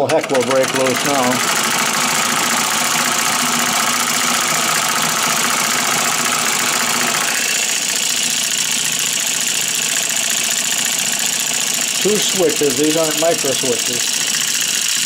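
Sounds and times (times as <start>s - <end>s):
electric model engine running: 0.0s - 15.0s.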